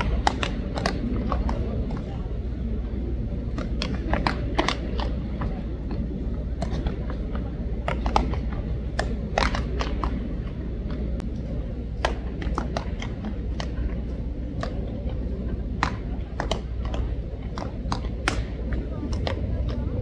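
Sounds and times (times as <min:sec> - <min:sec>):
balls smacking into gloves: 0:00.0 - 0:02.1, 0:03.5 - 0:11.3, 0:11.9 - 0:19.9
low open-air rumble: 0:00.0 - 0:20.0.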